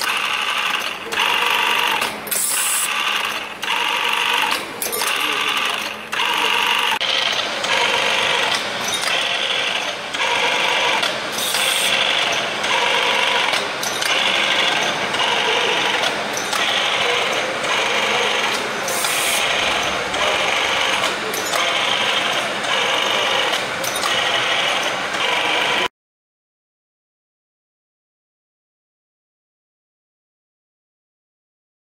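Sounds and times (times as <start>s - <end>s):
tapping spindle whirring: 0.0s - 25.9s.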